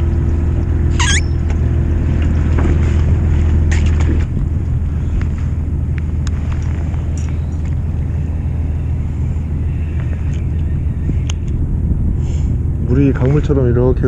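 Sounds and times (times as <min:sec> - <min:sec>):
boat engine rumbling: 0:00.0 - 0:14.0
wind on microphone: 0:02.4 - 0:14.0.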